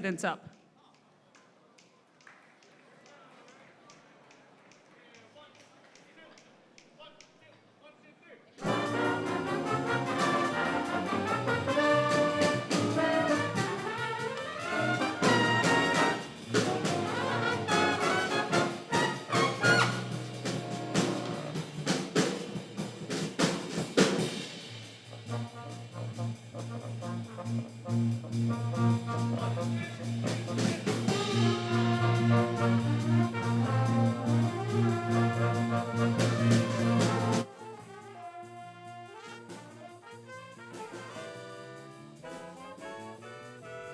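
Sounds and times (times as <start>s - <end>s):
brass jazz music: 8.6s - 43.9s.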